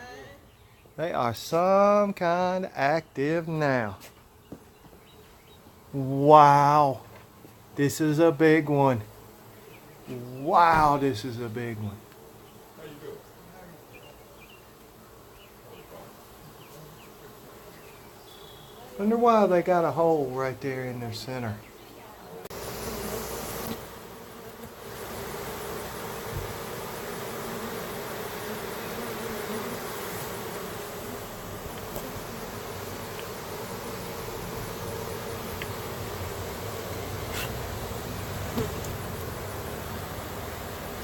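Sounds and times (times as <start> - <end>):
bee swarm buzzing: 0.0 - 41.0.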